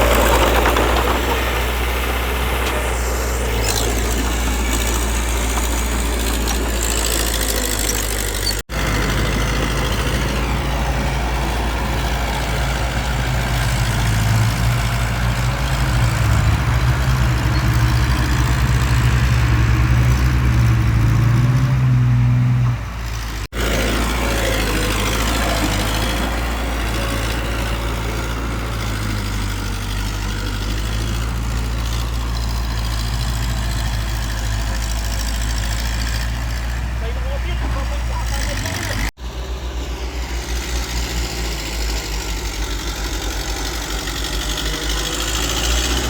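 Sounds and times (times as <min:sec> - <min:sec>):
heavy machinery diesel engine drone: 0:00.0 - 0:46.0.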